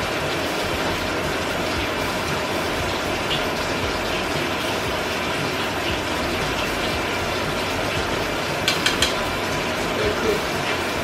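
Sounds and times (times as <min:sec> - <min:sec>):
eggs sizzling in a frying pan: 0:00.0 - 0:11.0.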